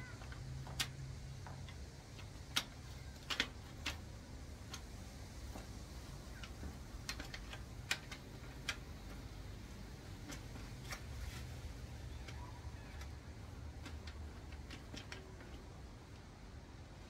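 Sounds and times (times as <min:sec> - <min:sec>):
metal parts clicking and tapping: 0:00.0 - 0:11.2, 0:12.0 - 0:16.3.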